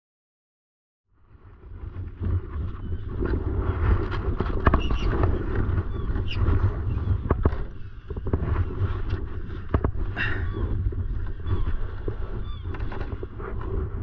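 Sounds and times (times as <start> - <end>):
wind rumbling on microphone: 1.1 - 14.0.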